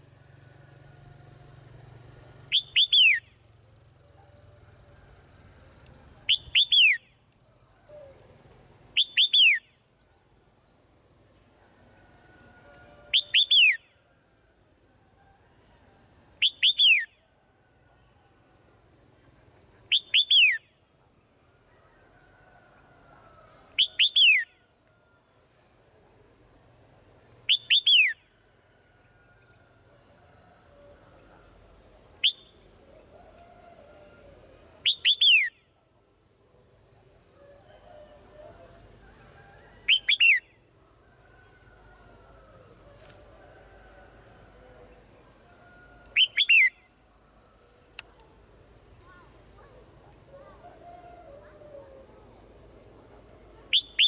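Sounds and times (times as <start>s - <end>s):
faint steady high hiss: 0.0s - 54.0s.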